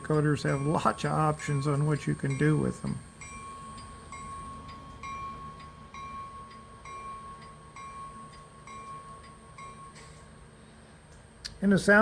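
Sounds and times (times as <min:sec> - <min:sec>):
locomotive bell ringing: 0:00.0 - 0:10.7.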